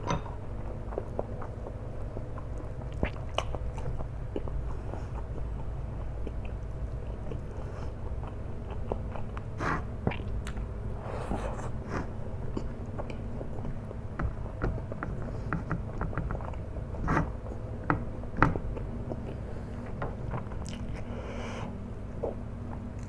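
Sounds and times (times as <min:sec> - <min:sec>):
person chewing noodles: 0:00.6 - 0:17.8, 0:18.6 - 0:23.0.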